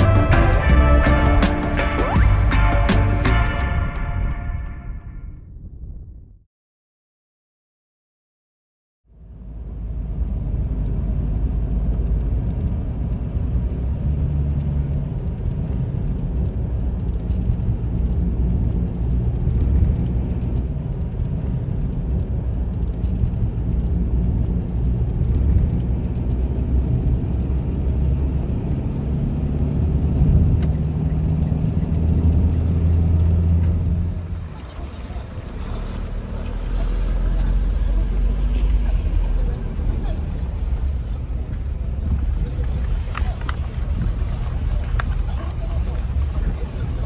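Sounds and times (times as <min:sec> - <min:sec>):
car driving rumble: 0:00.0 - 0:04.8, 0:09.1 - 0:47.0
faint engine hum: 0:09.1 - 0:47.0.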